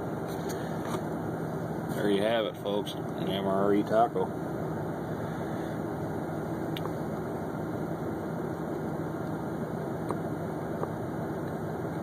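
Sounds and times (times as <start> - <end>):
low machine hum with hiss: 0.0 - 12.0.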